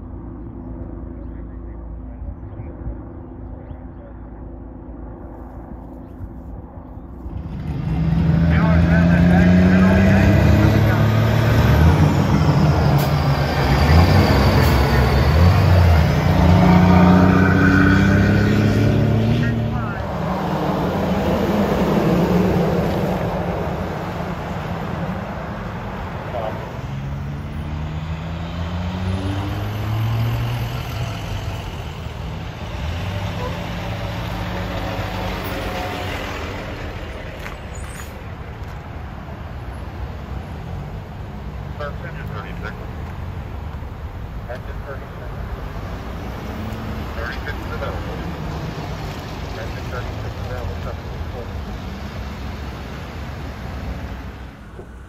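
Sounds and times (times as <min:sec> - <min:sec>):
road and traffic noise: 0:00.0 - 0:55.0
heavy truck engine driving past: 0:07.3 - 0:55.0.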